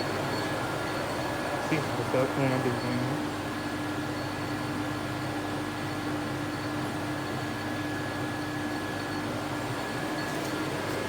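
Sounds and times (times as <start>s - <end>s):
lathe humming with whine: 0.0s - 11.0s.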